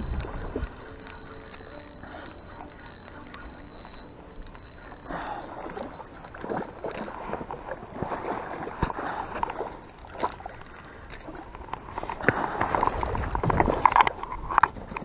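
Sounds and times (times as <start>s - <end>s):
handling clicks and rustling: 0.0s - 15.0s
water splashing and sloshing: 0.0s - 15.0s.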